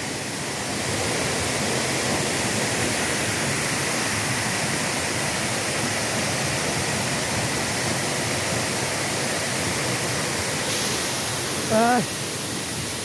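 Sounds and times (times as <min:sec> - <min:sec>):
waterfall crashing into pool: 0:00.0 - 0:13.0.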